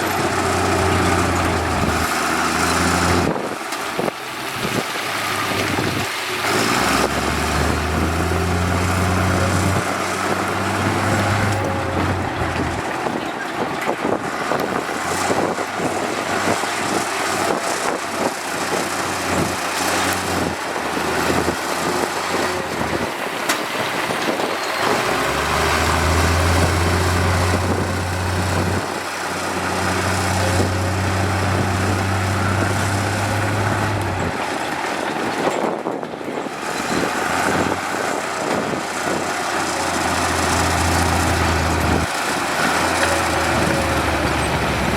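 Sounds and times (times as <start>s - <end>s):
heavy diesel machinery running: 0.0s - 44.9s
low engine hum: 0.0s - 44.9s.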